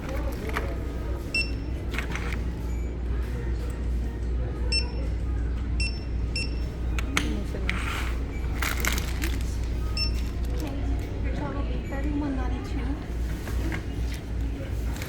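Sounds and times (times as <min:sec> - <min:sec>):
checkout scanner beeps: 0:00.0 - 0:15.0.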